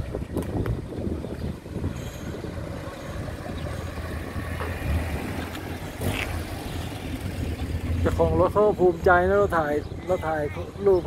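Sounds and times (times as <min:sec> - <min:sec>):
sports car engine rumbling: 0:00.0 - 0:11.0.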